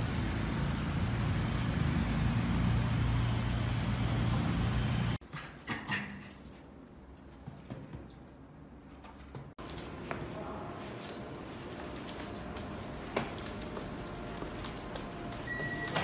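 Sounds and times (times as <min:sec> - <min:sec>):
traffic noise with low hum: 0:00.0 - 0:16.0.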